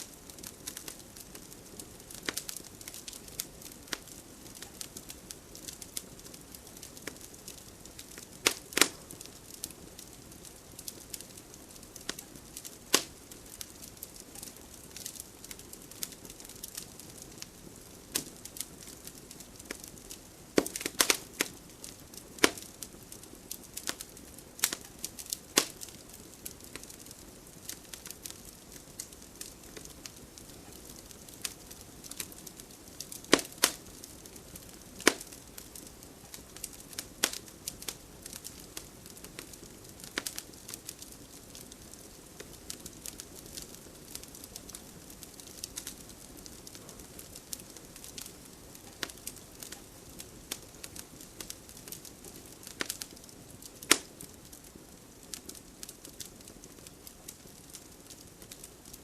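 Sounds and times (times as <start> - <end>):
fire crackling and popping: 0.0 - 59.0
fire hissing: 0.0 - 59.0.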